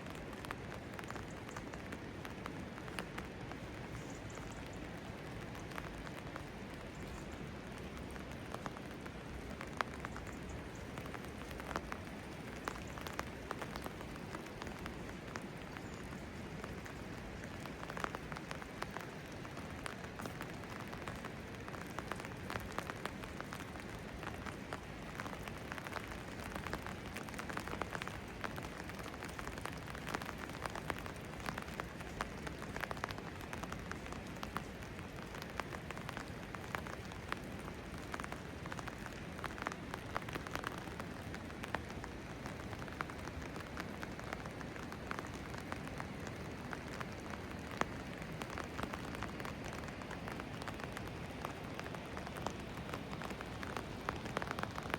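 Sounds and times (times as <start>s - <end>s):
close raindrop hits: 0.0s - 54.9s
steady rain: 0.0s - 54.9s.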